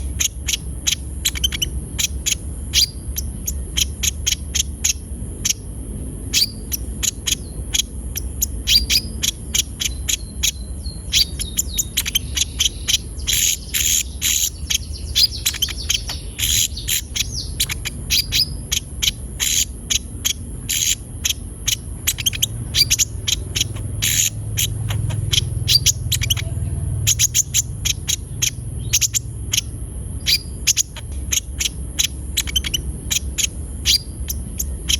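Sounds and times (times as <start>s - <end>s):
bird chirping fast: 0.0s - 34.9s
low hum: 0.0s - 34.9s.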